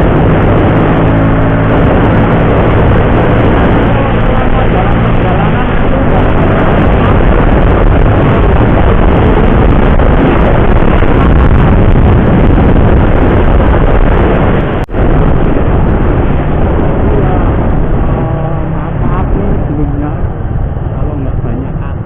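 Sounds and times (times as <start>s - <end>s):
motorcycle engine: 0.0s - 22.0s
wind rushing: 0.0s - 22.0s.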